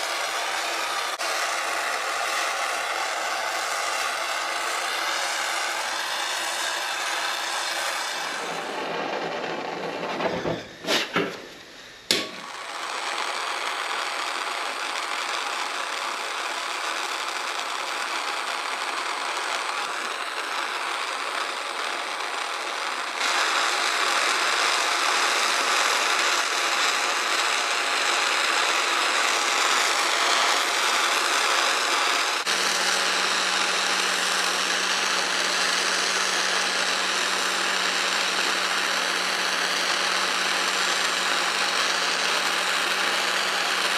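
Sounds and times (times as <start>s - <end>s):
gas torch hissing: 0.0s - 43.9s.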